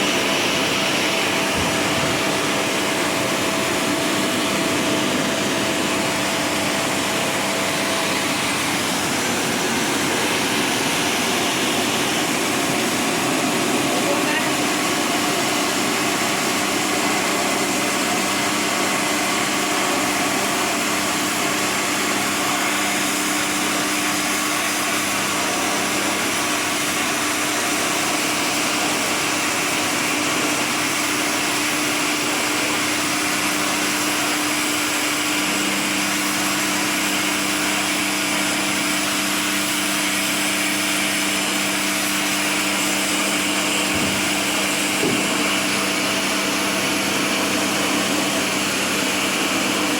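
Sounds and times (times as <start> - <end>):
pressure washer pump running: 0.0 - 49.9
water jet hissing: 0.0 - 49.9.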